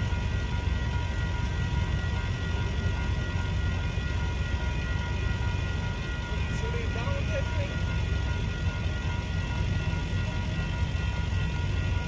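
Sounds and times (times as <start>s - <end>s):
steady high tones: 0.0s - 12.0s
train rumbling: 0.0s - 12.0s.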